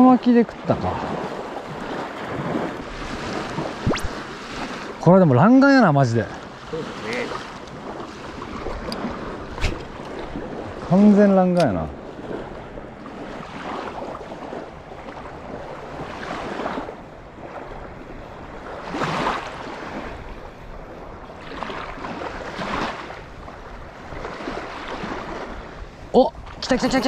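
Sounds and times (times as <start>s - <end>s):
small waves washing ashore: 0.0s - 27.0s
wind: 0.0s - 27.0s.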